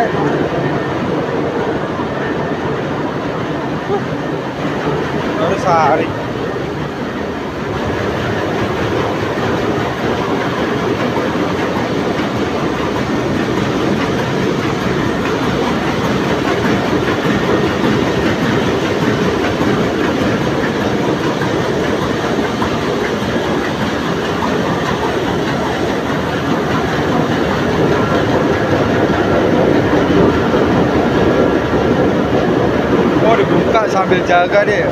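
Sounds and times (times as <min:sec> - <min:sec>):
engine room machinery din: 0:00.0 - 0:34.9.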